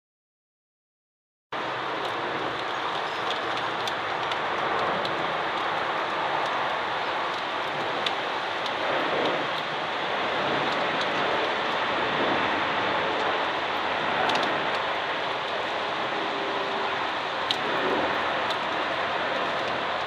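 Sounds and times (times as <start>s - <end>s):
jet engines passing overhead: 1.6s - 20.0s.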